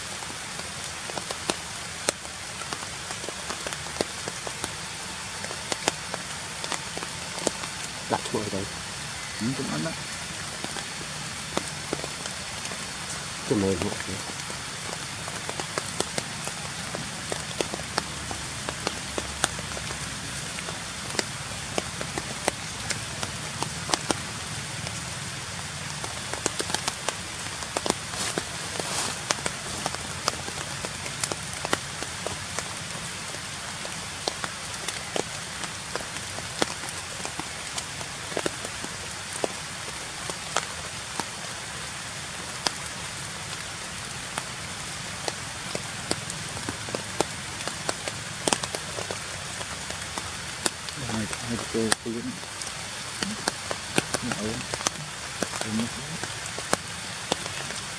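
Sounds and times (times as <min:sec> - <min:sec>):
rain pattering on leaves: 0:00.0 - 0:57.9.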